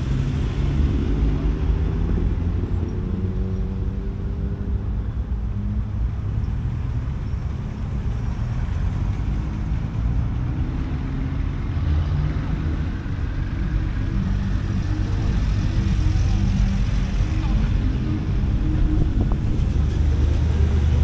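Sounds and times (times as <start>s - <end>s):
traffic engine rumble: 0.0s - 21.0s.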